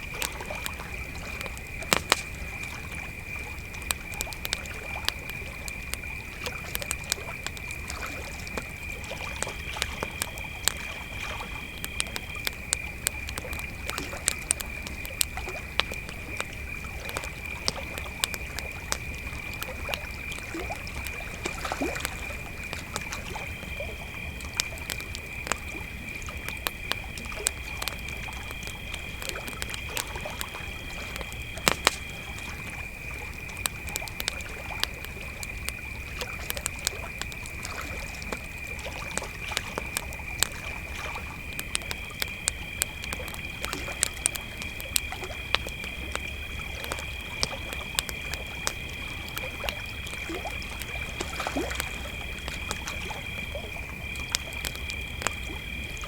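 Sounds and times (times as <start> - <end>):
campfire crackling and popping: 0.0 - 56.0
crickets chirping: 0.0 - 56.0
higher cricket chirping: 0.0 - 56.0.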